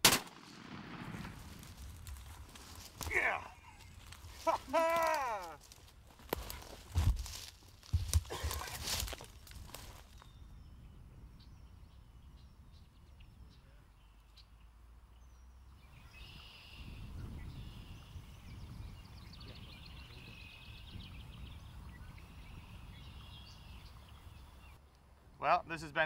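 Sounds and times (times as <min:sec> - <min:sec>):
songbirds chirping and trilling: 0:02.1 - 0:26.0.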